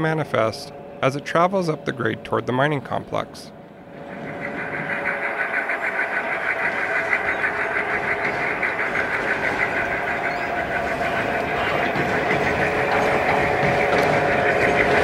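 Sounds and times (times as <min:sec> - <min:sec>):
model diesel locomotive running: 0:00.0 - 0:15.0.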